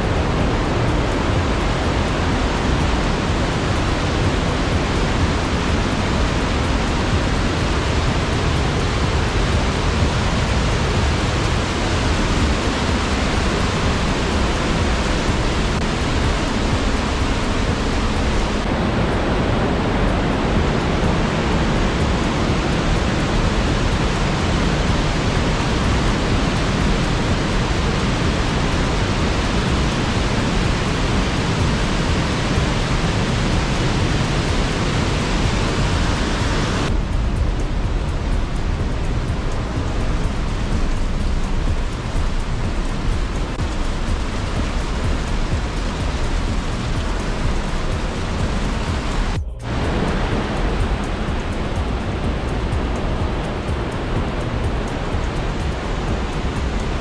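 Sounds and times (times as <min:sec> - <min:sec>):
mountain torrent roaring: 0:00.0 - 0:57.0.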